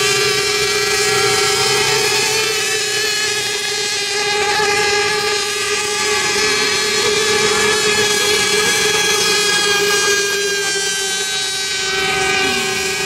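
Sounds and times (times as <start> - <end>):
racing boat engines whining: 0.0 - 13.0.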